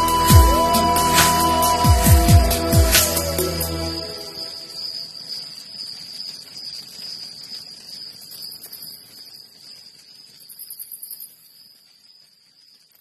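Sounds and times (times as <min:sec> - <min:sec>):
crickets trilling: 0:00.0 - 0:13.0
fast-pulsing insect trill: 0:00.0 - 0:13.0.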